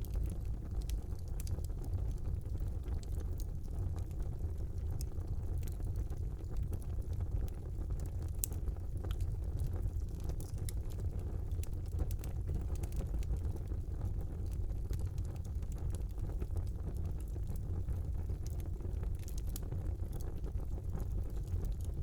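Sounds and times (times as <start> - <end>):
low rumble of fire flames: 0.0 - 22.0
wood fire crackling and popping: 0.0 - 22.0.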